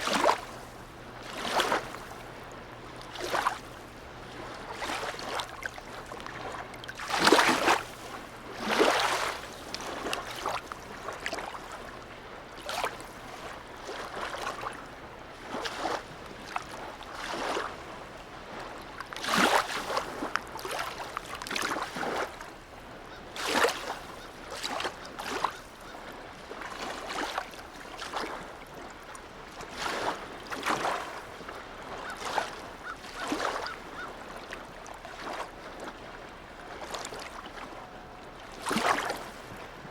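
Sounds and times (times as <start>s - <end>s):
waves lapping against quay: 0.0s - 39.9s.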